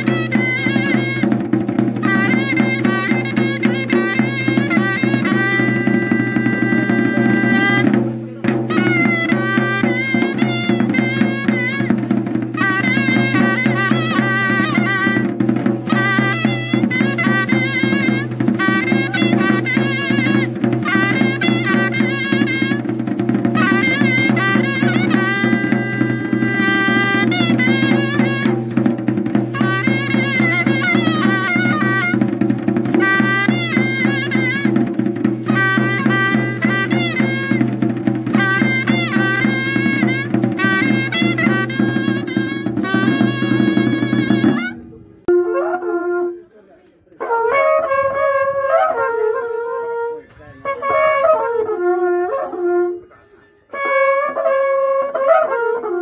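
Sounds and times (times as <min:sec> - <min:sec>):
large wooden drum beating: 0:00.0 - 0:45.3
horn trumpets holding notes: 0:00.0 - 0:46.6, 0:47.2 - 0:56.0
wind instrument melody: 0:00.0 - 0:56.0.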